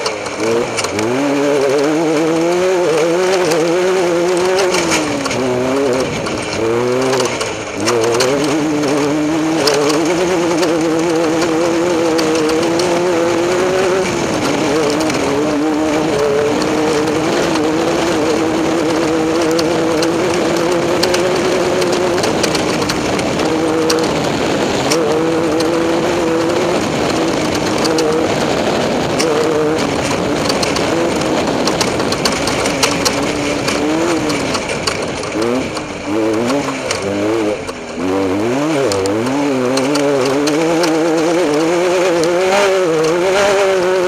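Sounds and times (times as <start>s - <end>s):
constant rushing noise: 0.0s - 44.0s
race vehicle engine running hard: 0.0s - 44.0s
sharp ticks: 0.0s - 44.0s.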